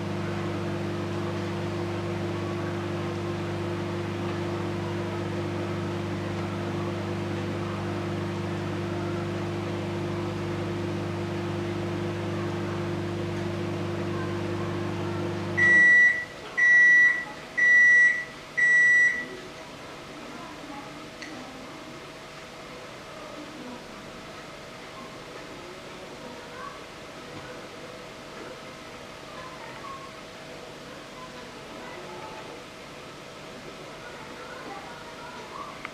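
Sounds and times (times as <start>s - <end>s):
appliance electric hum: 0.0s - 35.9s.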